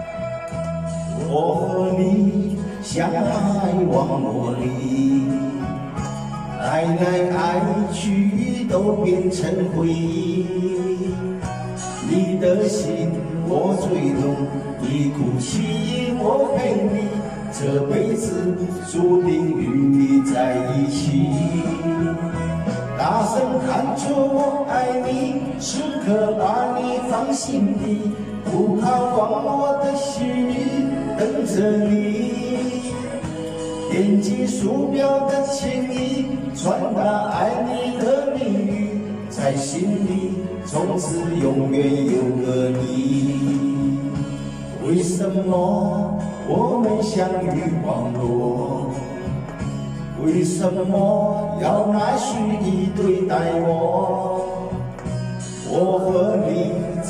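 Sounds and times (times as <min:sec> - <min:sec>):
backing track music: 0:00.0 - 0:57.0
man singing pop ballad: 0:00.0 - 0:57.0.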